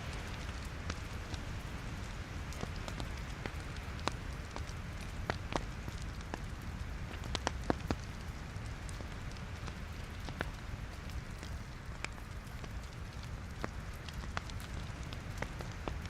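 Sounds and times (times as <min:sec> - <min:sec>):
fire crackling: 0:00.0 - 0:16.0
low rumble of flames: 0:00.0 - 0:16.0
sharp pops of burning logs: 0:00.1 - 0:16.0.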